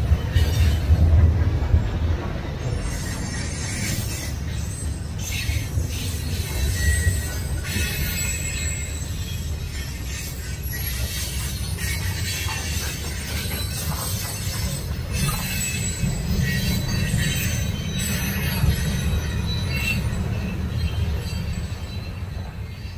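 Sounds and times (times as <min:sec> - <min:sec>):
train wheels rumbling on rail: 0:00.0 - 0:22.9
high-pitched wheel squeal: 0:02.7 - 0:22.9.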